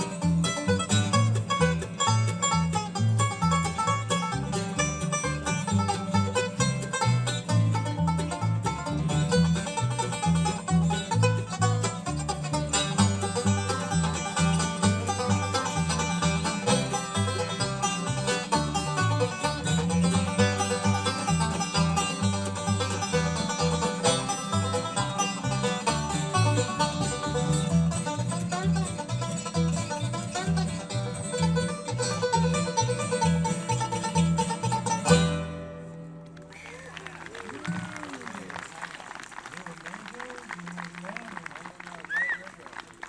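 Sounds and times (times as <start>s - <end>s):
bluegrass band playing: 0.0s - 38.5s.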